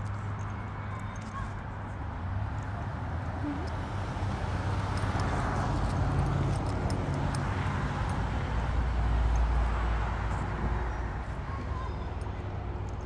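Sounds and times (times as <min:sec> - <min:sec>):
road traffic: 0:00.0 - 0:13.0
vehicle passing with low rumble: 0:02.0 - 0:13.0.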